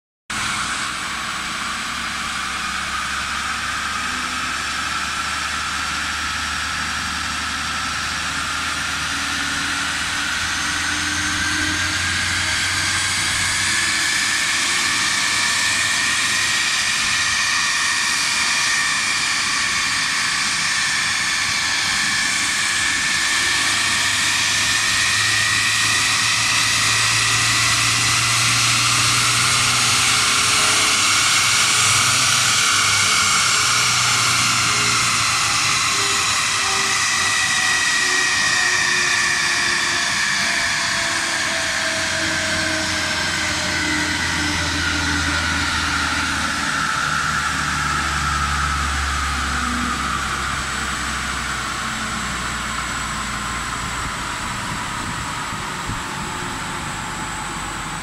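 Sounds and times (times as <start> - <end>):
diesel van engine on dyno: 0.3 - 58.0
whine climbing in pitch: 0.3 - 58.0.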